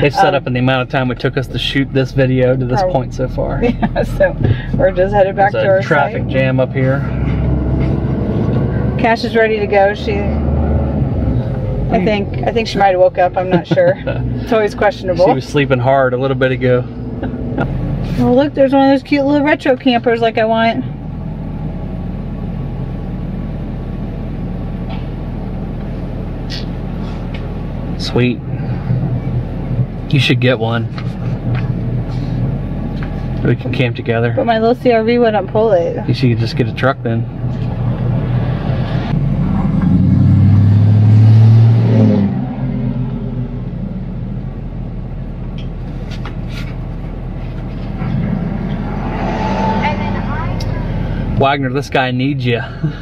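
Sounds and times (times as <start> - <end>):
pickup truck engine rumble: 0.0 - 53.0
road noise: 0.0 - 53.0.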